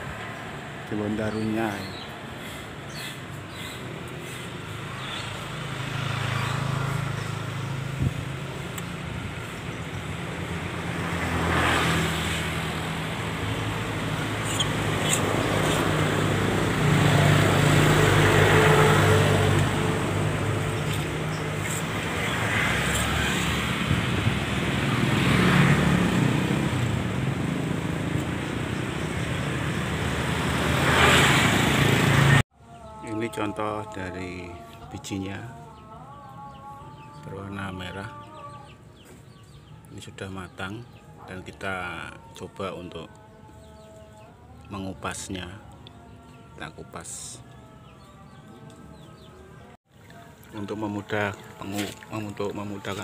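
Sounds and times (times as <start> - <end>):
vehicles passing on street: 0.0 - 53.0.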